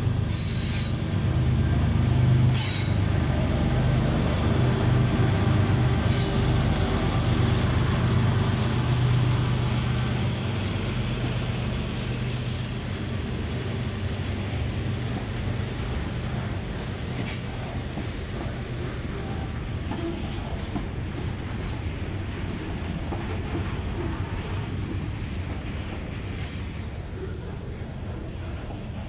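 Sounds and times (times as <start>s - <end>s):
diesel locomotive engines humming: 0.0s - 29.0s
wheels rumbling on rail: 0.0s - 29.0s.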